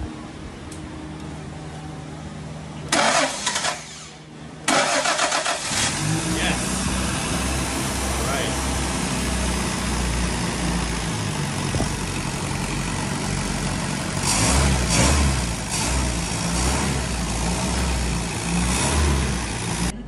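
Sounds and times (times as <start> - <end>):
petrol engine idling and revving: 0.0 - 20.0.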